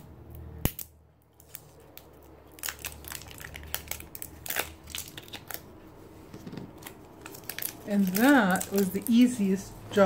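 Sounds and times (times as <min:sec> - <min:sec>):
tape wrapping crinkling: 0:00.6 - 0:09.4.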